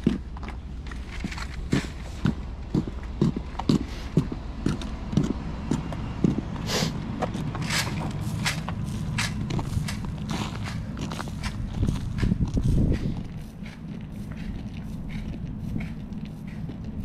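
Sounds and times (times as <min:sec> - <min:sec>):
brisk footsteps: 0:00.0 - 0:17.0
wind rumble on microphone: 0:00.0 - 0:17.0.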